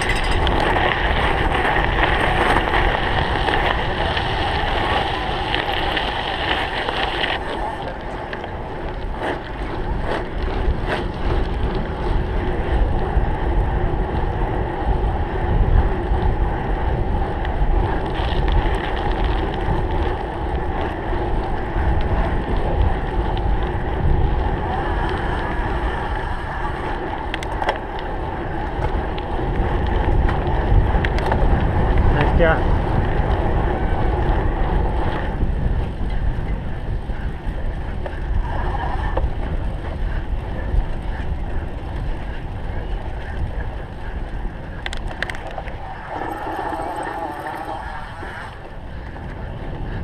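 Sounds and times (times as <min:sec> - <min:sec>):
bike tyres rumbling on rough ground: 0:00.0 - 0:50.0
wind on microphone: 0:00.0 - 0:50.0.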